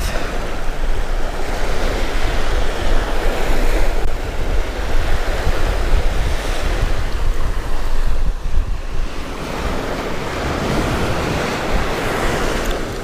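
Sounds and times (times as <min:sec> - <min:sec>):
waves breaking on a beach: 0:00.0 - 0:13.0
wind buffeting the microphone: 0:00.0 - 0:13.0.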